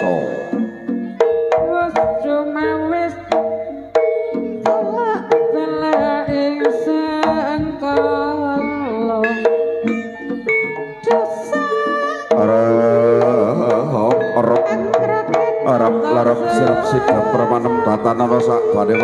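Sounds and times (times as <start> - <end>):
wavering melodic line: 0.0 - 19.0.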